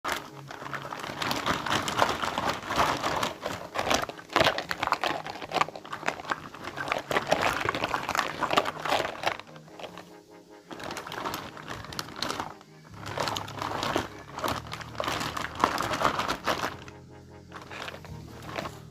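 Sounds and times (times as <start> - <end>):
packaging crinkling and rustling: 0.0 - 18.9.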